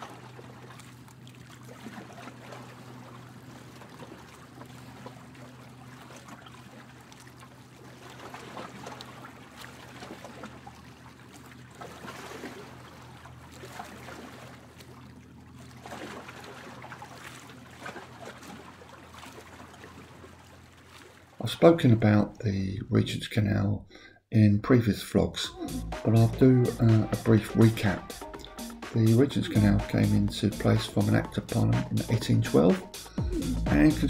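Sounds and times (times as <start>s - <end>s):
boat engine idling: 0.0s - 22.8s, 25.0s - 34.0s.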